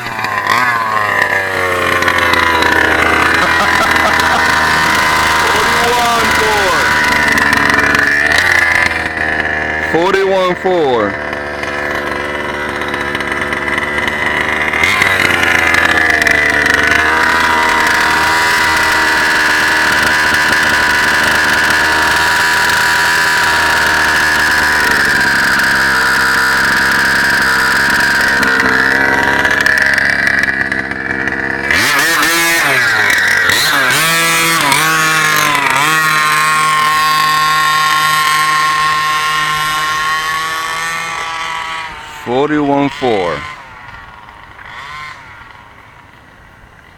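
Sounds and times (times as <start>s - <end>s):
two-stroke engine high revs: 0.0s - 46.9s.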